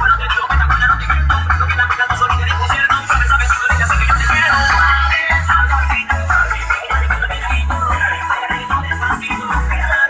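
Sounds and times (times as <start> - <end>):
music with heavy deep bass: 0.0 - 10.0.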